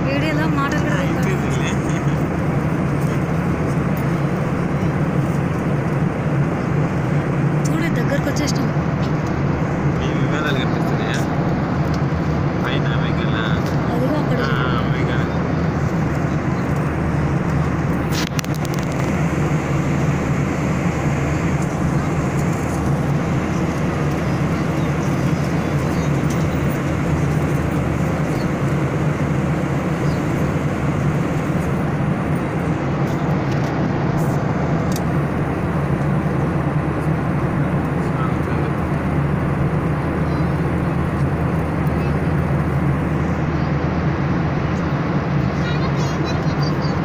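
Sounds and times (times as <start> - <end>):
airliner cabin drone and hiss: 0.0 - 47.0.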